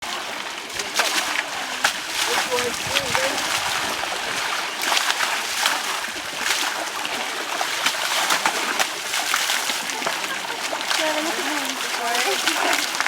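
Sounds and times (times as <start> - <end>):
rushing water: 0.0 - 13.0
water splashing: 0.0 - 13.0.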